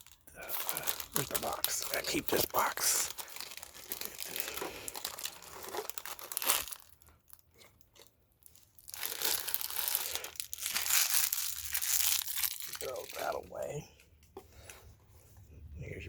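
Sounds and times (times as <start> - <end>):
packaging crinkling and rustling: 0.0 - 13.8.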